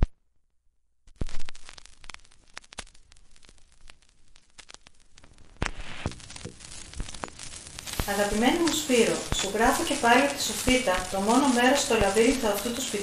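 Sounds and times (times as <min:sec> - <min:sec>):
crackling pops and clicks: 0:01.1 - 0:13.0
faint hiss: 0:01.4 - 0:13.0.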